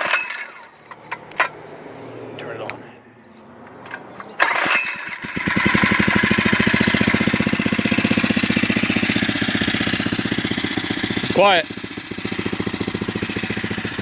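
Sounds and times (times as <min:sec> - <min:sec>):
small engine starting and idling: 0:00.0 - 0:01.7, 0:03.8 - 0:14.0.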